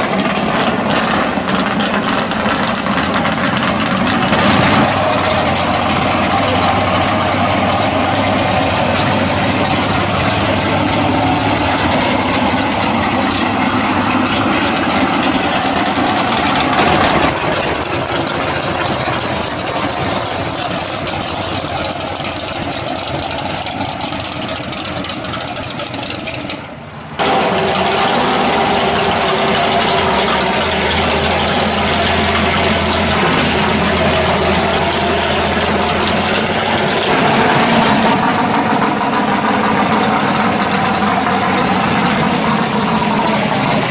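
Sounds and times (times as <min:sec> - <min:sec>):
loud race car engines idling: 0:00.0 - 0:43.9.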